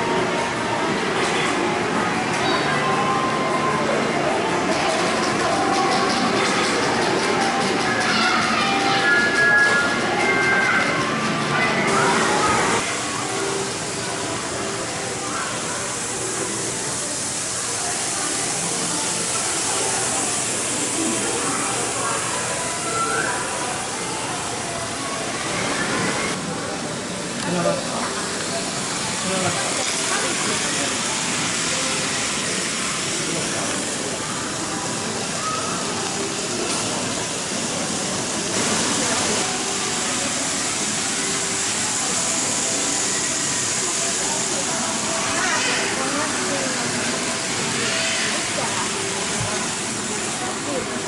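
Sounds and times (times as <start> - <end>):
faint voices: 0.0 - 51.0
model train running on track: 0.0 - 51.0.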